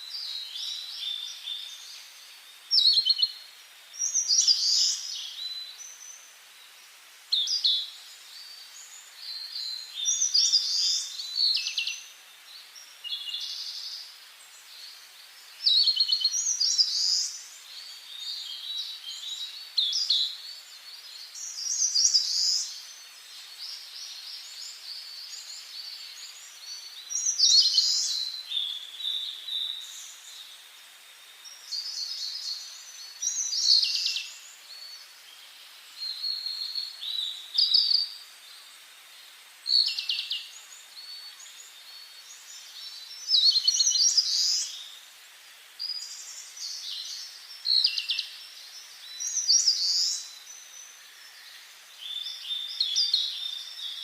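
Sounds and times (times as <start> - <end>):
faint steady hiss: 0.0 - 54.0
songbirds chirping: 0.0 - 54.0.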